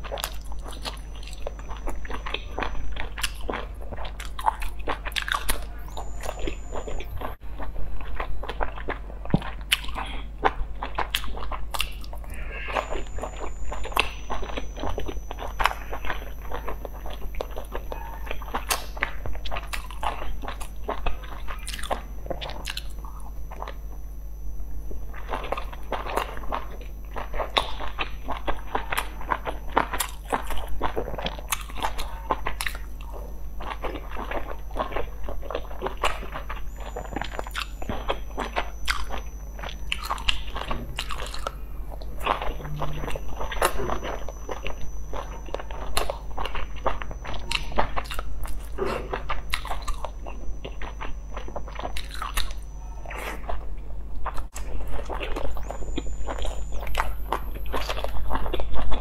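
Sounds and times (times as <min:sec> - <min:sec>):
low hum: 0:00.0 - 0:59.0
person chewing dumplings: 0:00.0 - 0:59.0.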